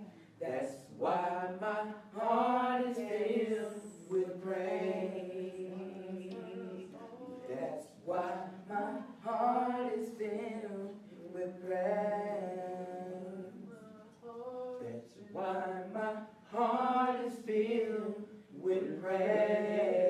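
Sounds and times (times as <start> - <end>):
boy singing: 0.0 - 20.0.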